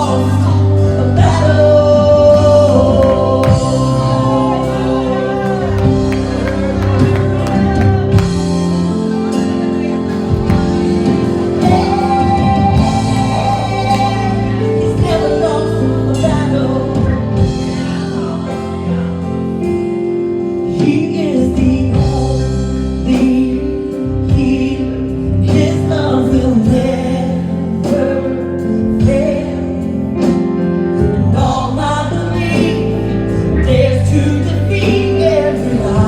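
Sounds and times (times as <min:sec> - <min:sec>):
sustained instrumental chords: 0:00.0 - 0:36.0
voices singing worship song: 0:00.0 - 0:36.0.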